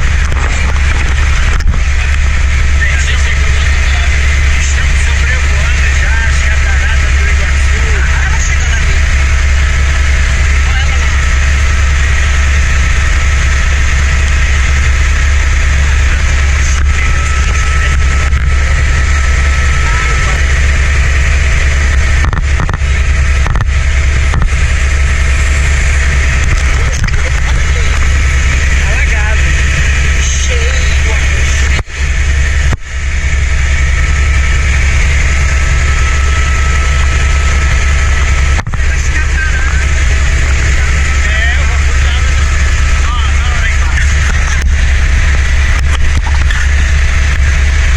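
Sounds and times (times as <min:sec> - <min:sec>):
helicopter rotor and engine drone: 0:00.0 - 0:47.9
thin steady whine: 0:00.0 - 0:47.9.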